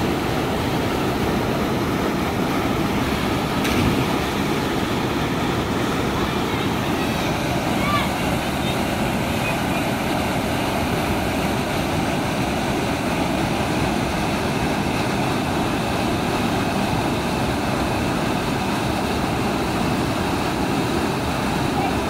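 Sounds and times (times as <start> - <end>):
water rushing through sluice gate: 0.0 - 22.0.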